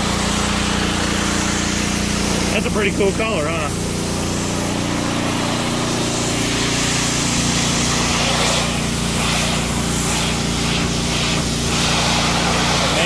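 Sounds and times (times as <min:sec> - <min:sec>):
engine drone: 0:00.0 - 0:13.0
pressure washer jet spraying metal: 0:00.0 - 0:13.0.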